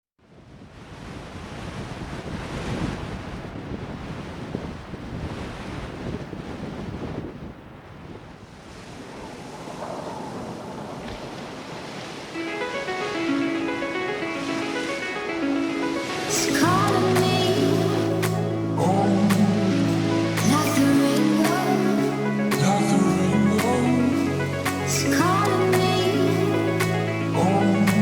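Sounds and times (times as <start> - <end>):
ocean waves breaking: 0.7 - 28.0.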